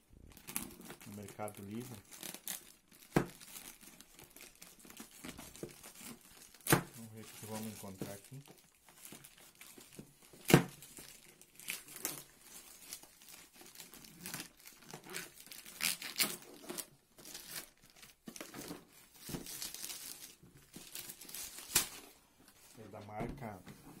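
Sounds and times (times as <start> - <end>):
packaging crinkling and tearing: 0.2 - 22.2.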